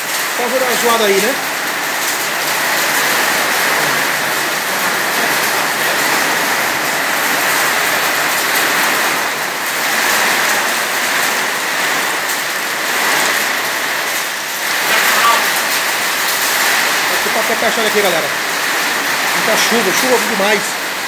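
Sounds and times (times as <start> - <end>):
heavy rain on concrete: 0.0 - 21.0.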